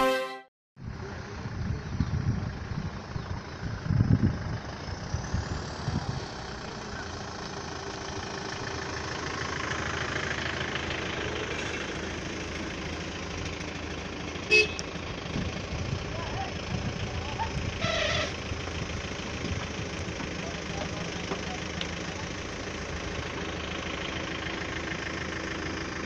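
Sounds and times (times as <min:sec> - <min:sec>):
engines idling: 0:00.9 - 0:26.0.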